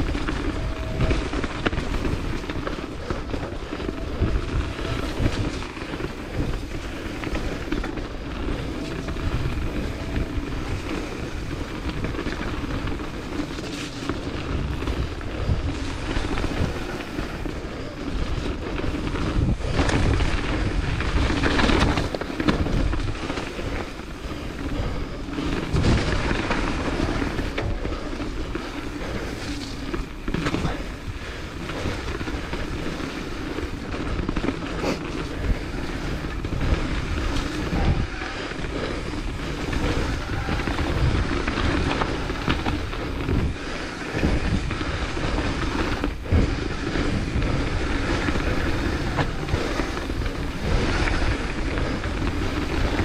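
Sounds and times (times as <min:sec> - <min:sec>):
bike frame and chain rattling: 0:00.0 - 0:53.0
bike tyres rolling and skidding on dirt: 0:00.0 - 0:53.0
steady rushing noise: 0:00.0 - 0:53.0.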